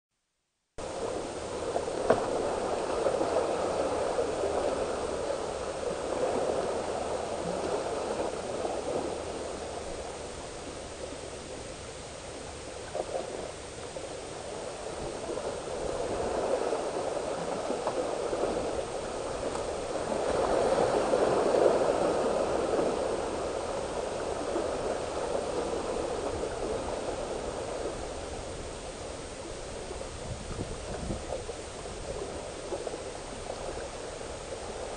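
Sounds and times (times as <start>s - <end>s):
waves splashing against rocks: 0.8s - 34.9s.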